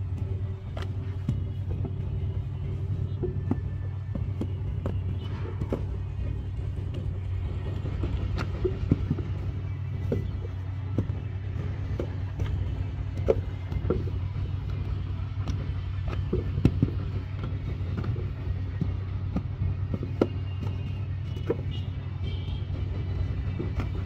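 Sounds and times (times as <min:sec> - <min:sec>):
mould knocking on ground: 0:00.0 - 0:24.0
steady low hum: 0:00.0 - 0:24.0.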